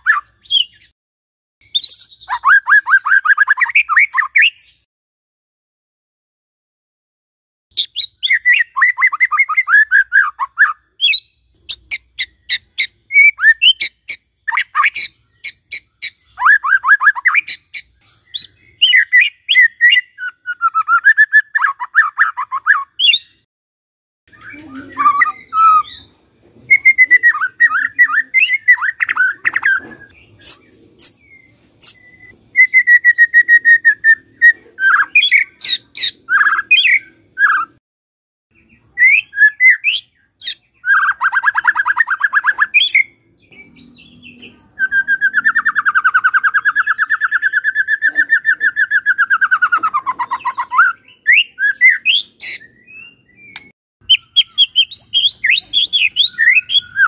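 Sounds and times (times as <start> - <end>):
songbird whistling and trilling: 0.0 - 1.0, 1.6 - 4.9, 7.7 - 23.5, 24.3 - 37.8, 38.5 - 57.0.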